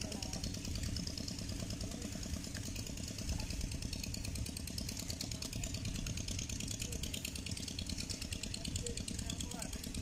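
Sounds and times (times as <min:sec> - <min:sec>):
motor drone: 0:00.0 - 0:10.0.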